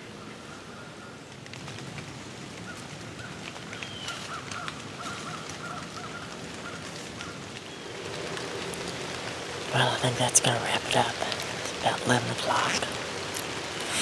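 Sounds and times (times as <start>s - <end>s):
steady rain: 0.0s - 14.0s
raindrops ticking: 1.3s - 14.0s.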